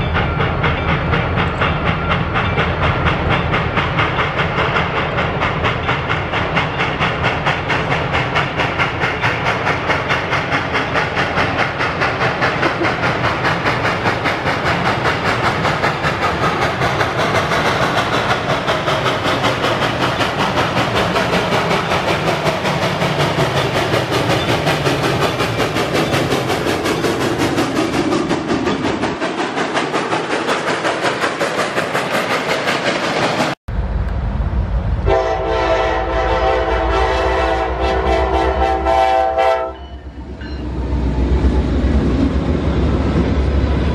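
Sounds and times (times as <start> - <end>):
steam locomotive chuffing: 0.0 - 43.9.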